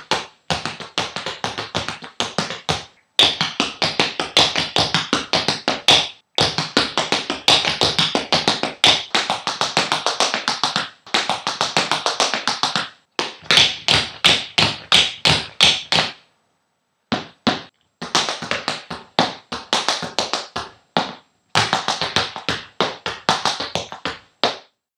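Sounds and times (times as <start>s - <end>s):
tap shoes on wooden floor: 0.0s - 16.2s, 17.1s - 24.8s.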